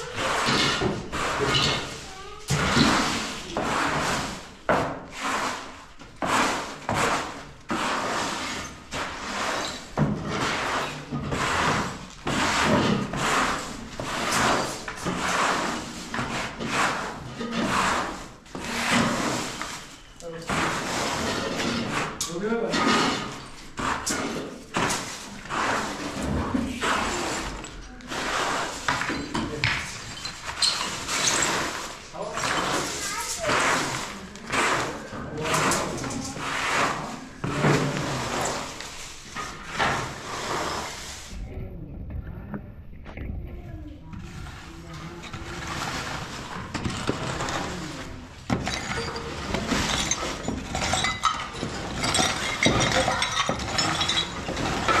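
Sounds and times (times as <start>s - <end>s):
hard objects clinking and knocking: 0.0s - 5.1s, 5.9s - 40.8s, 45.2s - 55.0s
rough scraping strokes: 0.0s - 29.2s, 30.0s - 41.4s, 44.2s - 55.0s.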